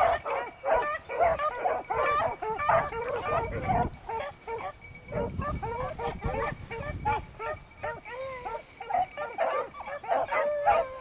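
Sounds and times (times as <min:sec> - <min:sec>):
hounds baying: 0:00.0 - 0:11.0.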